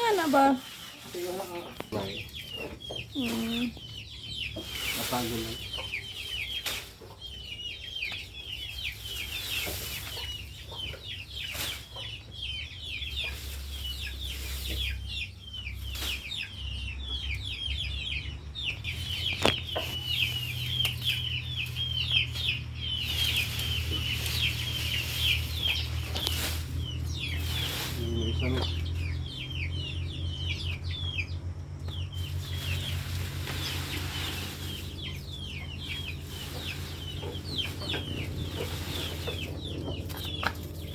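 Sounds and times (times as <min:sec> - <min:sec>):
chickens calling: 0:00.0 - 0:40.9.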